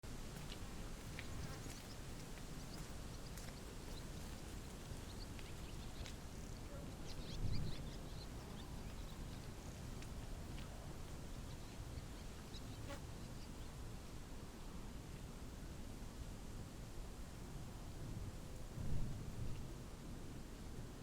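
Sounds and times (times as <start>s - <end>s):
wind blowing over field: 0.1s - 21.0s.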